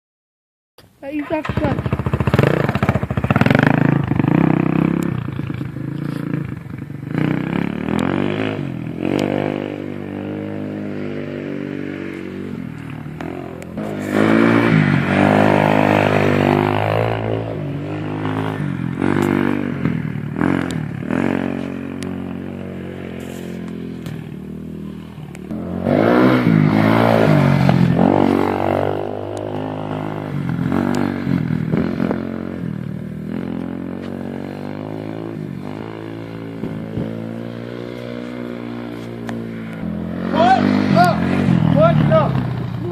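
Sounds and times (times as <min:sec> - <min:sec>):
dirt bike engine revving: 0:01.2 - 0:42.9.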